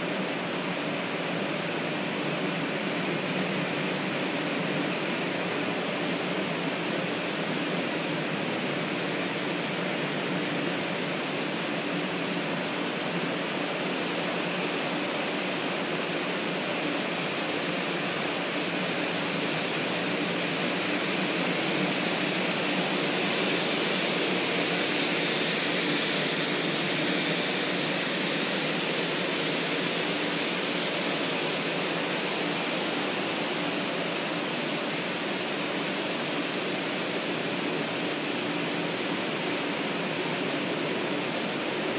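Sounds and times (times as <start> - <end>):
air-conditioning blowers rushing hiss: 0.0 - 41.9.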